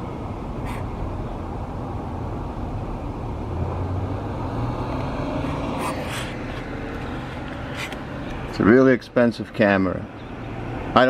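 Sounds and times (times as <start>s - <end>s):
street traffic noise: 0.0s - 11.0s
vehicle engine hum: 0.0s - 11.0s.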